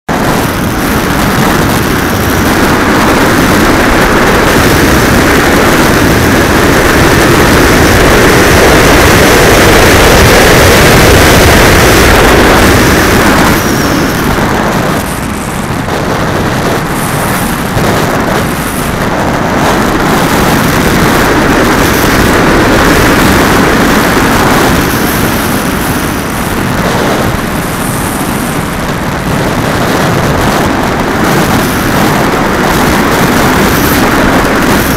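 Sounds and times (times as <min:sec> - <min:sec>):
airflow rushing over microphone: 0:00.0 - 0:34.9.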